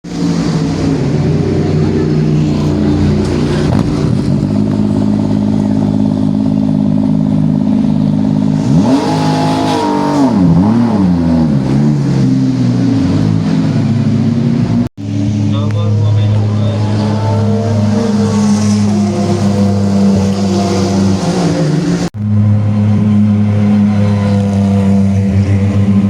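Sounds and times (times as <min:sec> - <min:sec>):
race car engine idling and revving: 0:00.0 - 0:26.0.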